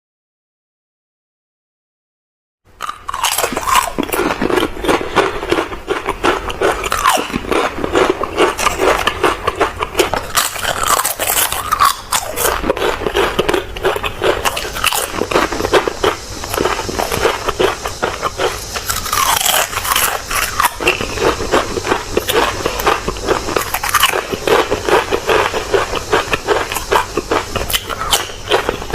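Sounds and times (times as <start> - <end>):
crunching crispy food: 2.8 - 28.9.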